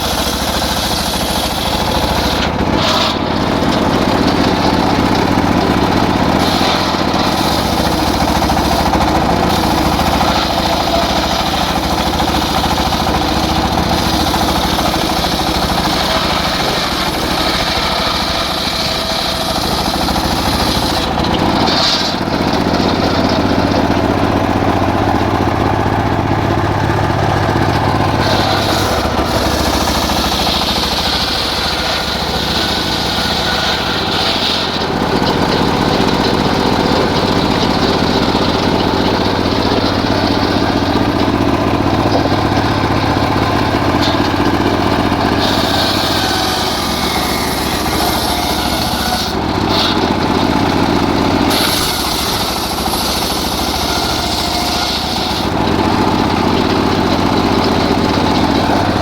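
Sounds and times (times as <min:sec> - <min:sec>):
circular saw ripping wood: 0:00.0 - 0:59.0
motor humming: 0:00.0 - 0:59.0.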